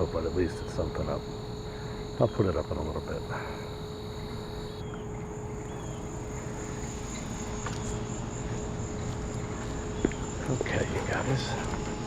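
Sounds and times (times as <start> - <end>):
insects trilling high: 0.0 - 12.0
lower insect trill: 0.0 - 12.0.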